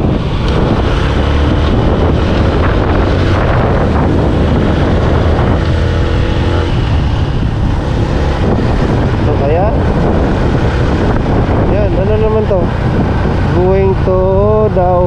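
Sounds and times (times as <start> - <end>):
vehicle engine and road rumble: 0.0 - 15.0
wind buffeting microphone: 0.0 - 15.0.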